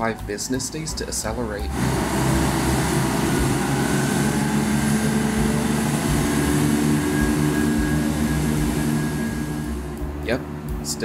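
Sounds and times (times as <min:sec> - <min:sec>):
train diesel engines droning: 0:00.0 - 0:11.0.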